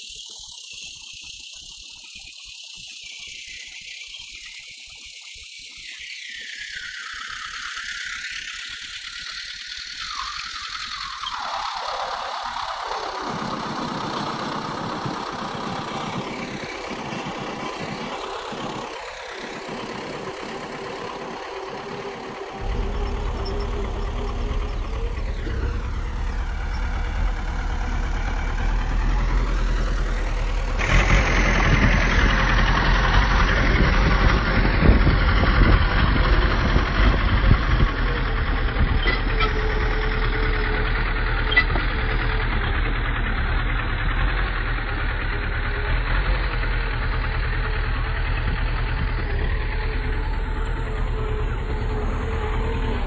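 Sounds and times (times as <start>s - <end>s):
bulldozer diesel engine running: 8.7s - 53.0s.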